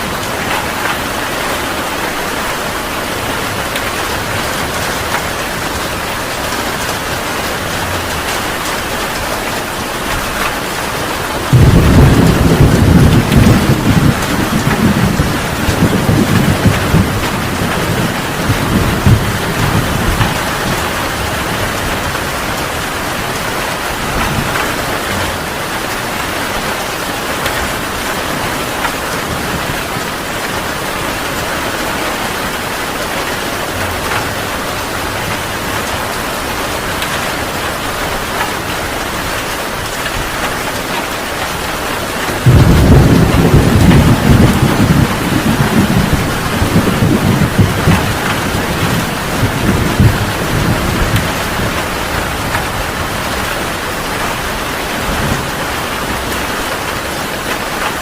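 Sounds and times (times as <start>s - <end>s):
heavy rain pouring: 0.0s - 58.0s
thunder rumbling: 0.0s - 58.0s.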